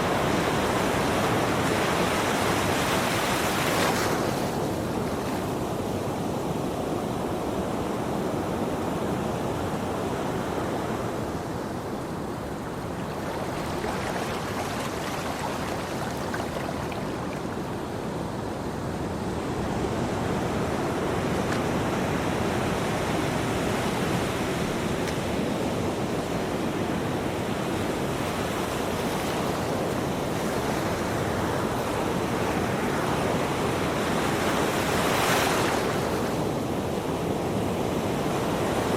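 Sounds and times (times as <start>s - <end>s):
ocean waves washing in: 0.0s - 38.9s.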